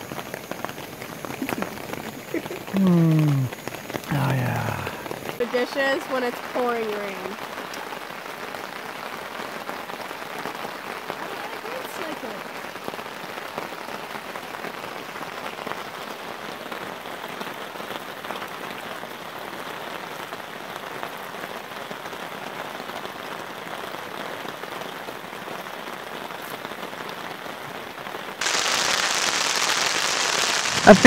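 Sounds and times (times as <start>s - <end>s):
rain on a tarp: 0.0s - 31.0s.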